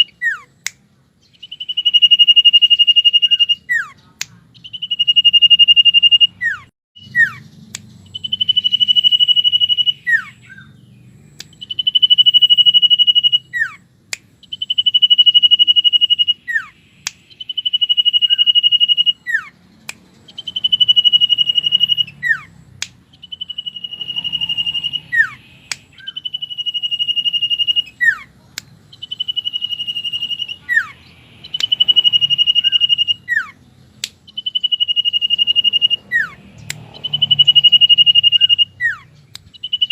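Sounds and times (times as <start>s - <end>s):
bird singing high whistle: 0.0s - 4.0s, 4.6s - 33.6s, 34.2s - 39.9s.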